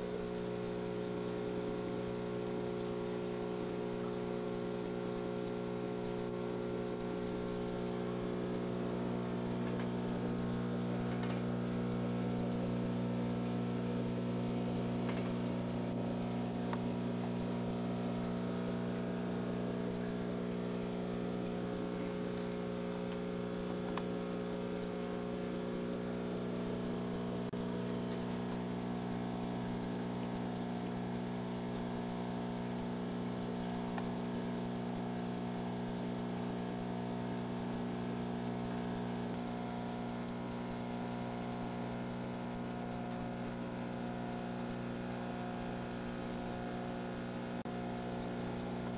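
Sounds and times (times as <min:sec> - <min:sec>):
bubbling water: 0:00.0 - 0:48.9
steady low hum: 0:00.0 - 0:48.9.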